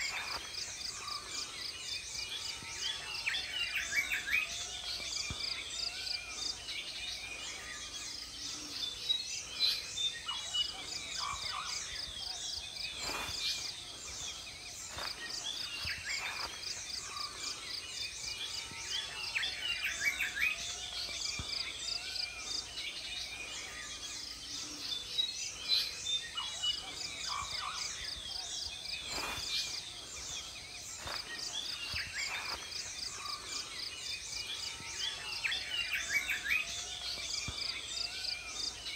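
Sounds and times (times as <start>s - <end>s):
birds chirping and whistling: 0.0s - 38.9s
insects chorus: 0.0s - 38.9s.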